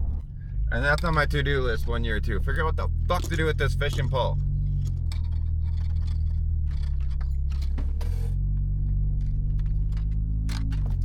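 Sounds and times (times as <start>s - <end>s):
truck engine humming: 0.0s - 11.0s
clicks and metallic rattles: 0.8s - 11.0s.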